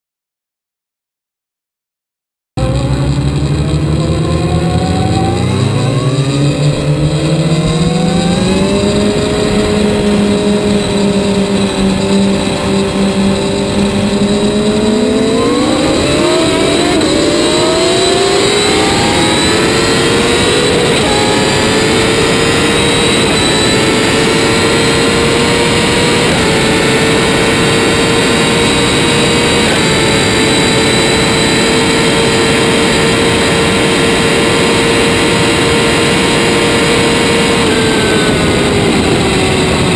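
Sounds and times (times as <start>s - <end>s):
gear upshifts: 2.6s - 39.9s
motorcycle engine at full throttle: 2.6s - 39.9s
wind rush over microphone: 2.7s - 39.9s.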